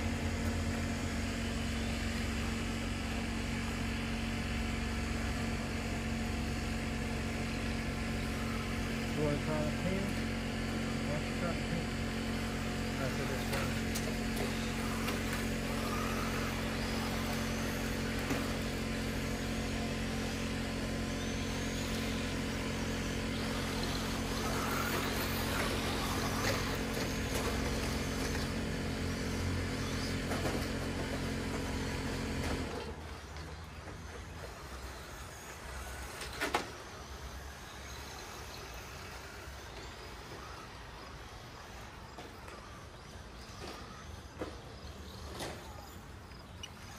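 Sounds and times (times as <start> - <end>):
electric rc car motors whining: 0.0 - 46.9
steady mechanical hum: 0.0 - 46.9.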